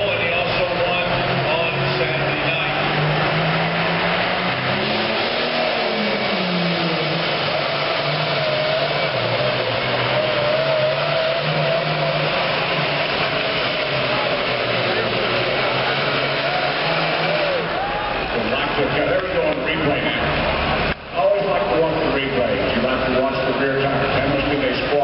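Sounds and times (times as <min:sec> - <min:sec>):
tractor diesel engine at high revs: 0:00.0 - 0:25.0.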